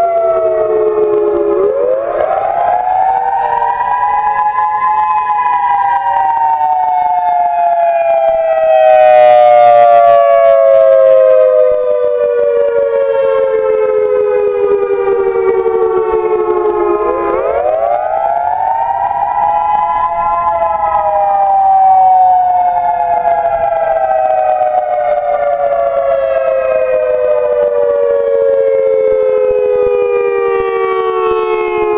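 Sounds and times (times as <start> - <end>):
warning siren wailing: 0.0 - 31.9.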